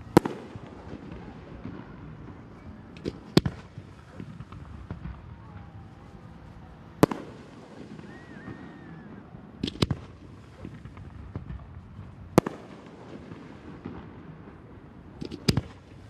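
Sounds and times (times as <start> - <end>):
firework shells bursting: 0.0 - 13.9, 15.2 - 16.0
faint firework pops: 0.0 - 14.1, 15.2 - 16.0.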